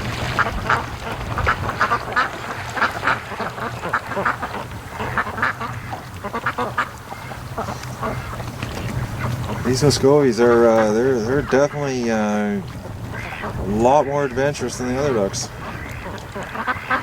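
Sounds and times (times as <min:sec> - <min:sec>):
ducks quacking: 0:00.0 - 0:17.0
wind rumble on microphone: 0:00.0 - 0:17.0.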